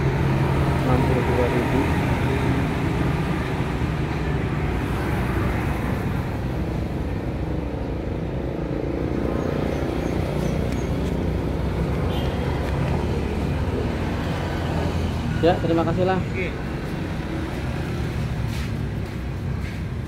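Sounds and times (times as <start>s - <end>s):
passing road traffic: 0.0s - 20.0s.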